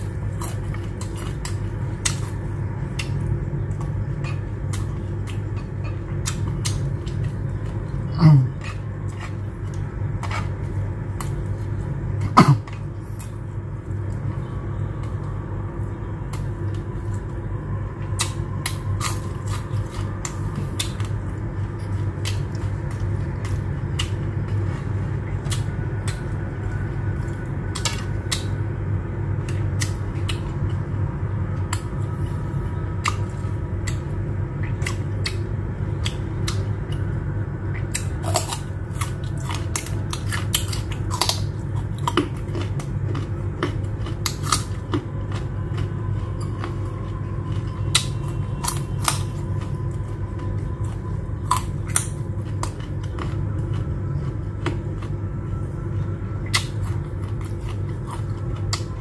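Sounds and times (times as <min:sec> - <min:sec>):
low steady hum: 0:00.0 - 0:59.0
person chewing crunchy food: 0:00.0 - 0:59.0.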